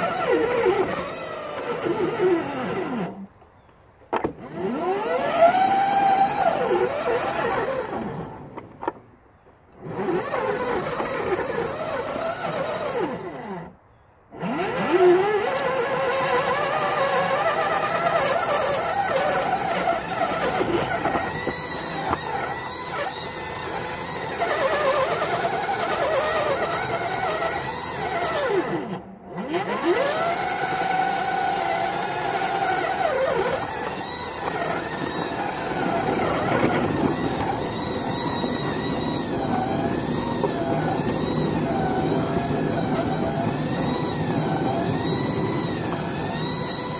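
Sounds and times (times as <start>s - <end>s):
rail vehicle motor whine: 4.1s - 46.9s.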